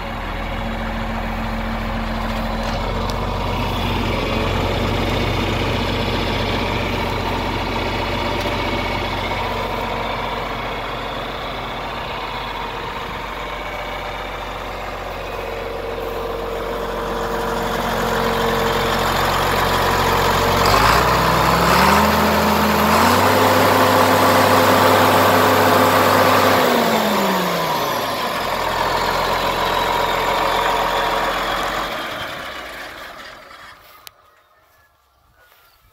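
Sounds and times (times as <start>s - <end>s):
diesel tractor engine idling and revving: 0.0s - 35.9s.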